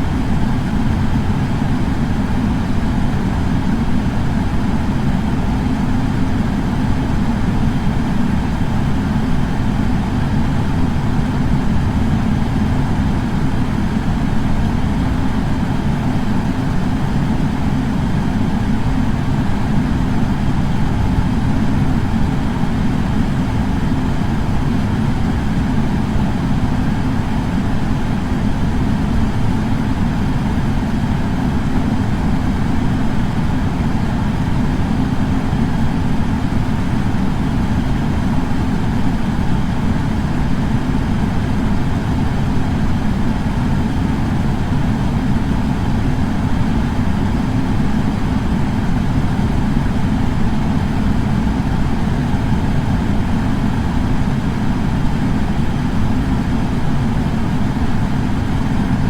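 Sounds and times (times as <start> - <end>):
air purifier fan running: 0.0 - 59.0.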